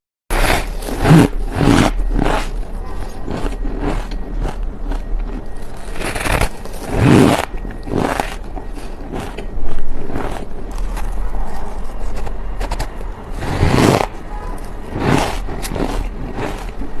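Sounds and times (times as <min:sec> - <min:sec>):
gritty chewing: 0:00.3 - 0:17.0
ice crunching between teeth: 0:00.3 - 0:17.0.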